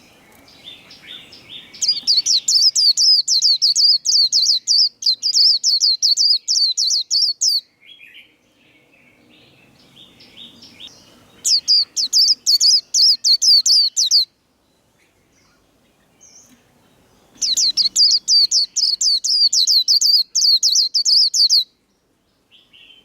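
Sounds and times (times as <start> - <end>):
soft bird twitter: 0.0 - 23.0.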